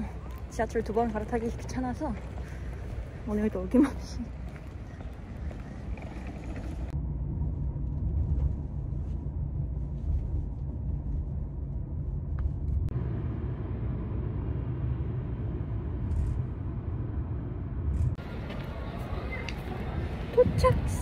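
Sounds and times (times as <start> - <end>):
car engine and road noise: 0.0 - 20.6.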